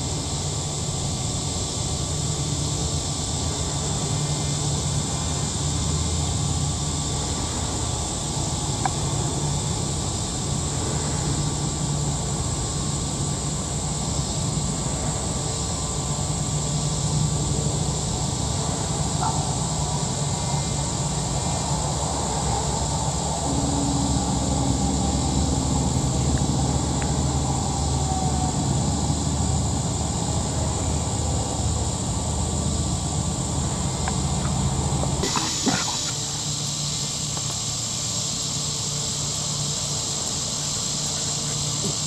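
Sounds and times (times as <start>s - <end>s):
continuous low rumble: 0.0s - 42.0s
high insect drone: 0.0s - 42.0s.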